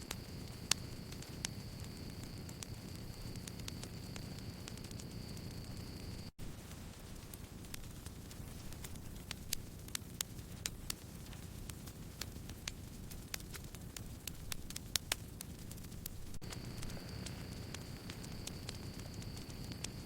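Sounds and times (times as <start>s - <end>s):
campfire flame rumble: 0.0s - 20.0s
wood crackles and pops: 0.0s - 20.0s.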